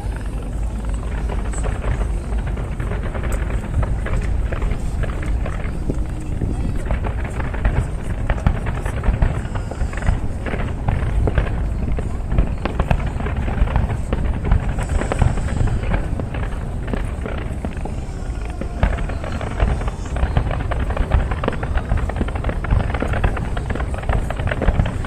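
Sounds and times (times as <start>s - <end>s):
fireworks crackling and banging: 0.0s - 25.0s
low rumble: 0.0s - 25.0s.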